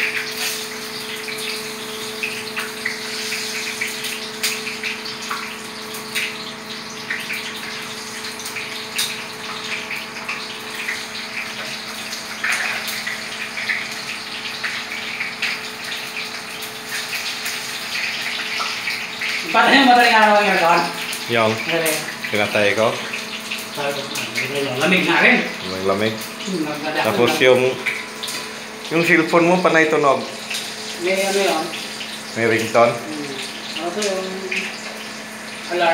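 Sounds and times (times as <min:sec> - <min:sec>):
food sizzling in hot oil: 0:00.0 - 0:35.9.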